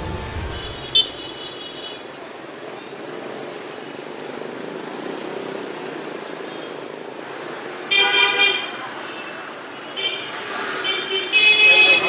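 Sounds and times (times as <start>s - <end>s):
motorbike traffic hum: 0.0s - 12.0s.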